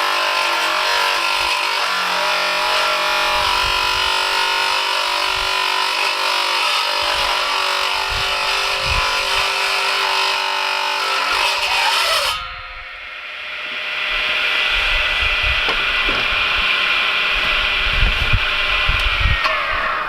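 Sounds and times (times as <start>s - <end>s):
electric power tool whining: 0.0s - 20.0s.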